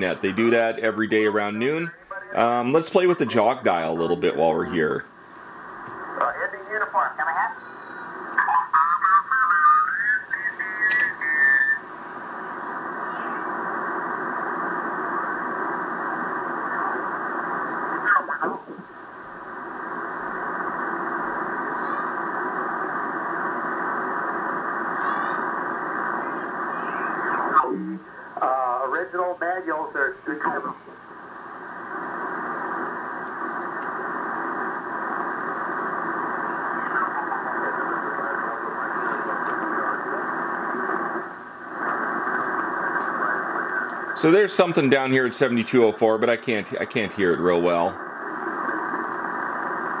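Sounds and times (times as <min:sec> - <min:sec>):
radio band noise: 0:00.0 - 0:50.0.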